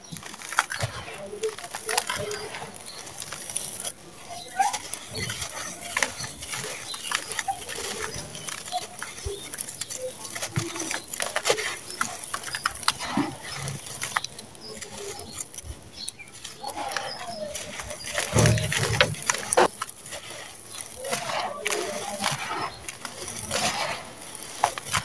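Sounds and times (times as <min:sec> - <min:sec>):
hand crumbling gritty chunks: 0:00.0 - 0:25.0
faint animal calls: 0:00.8 - 0:24.0.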